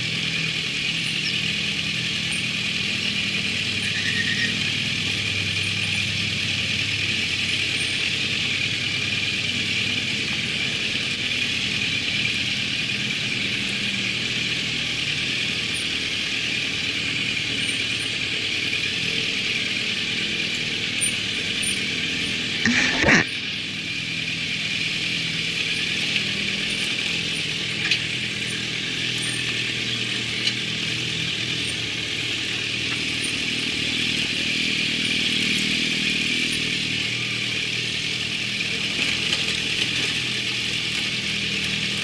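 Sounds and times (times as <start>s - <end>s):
motorcycle engine running: 0.0s - 42.0s
wind and road noise: 0.0s - 42.0s.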